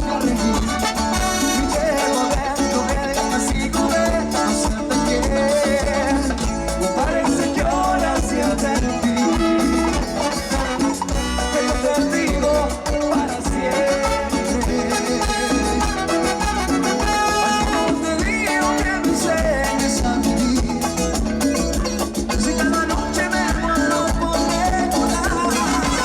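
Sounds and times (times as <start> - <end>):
live band playing latin dance music: 0.0 - 26.0.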